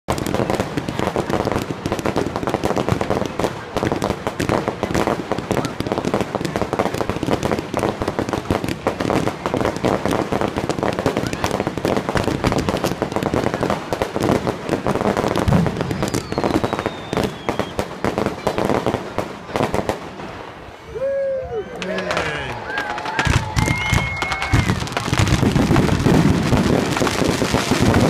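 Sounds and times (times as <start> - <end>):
firework bang: 0.1 - 20.6, 22.0 - 28.0
fireworks crackling: 0.1 - 28.0.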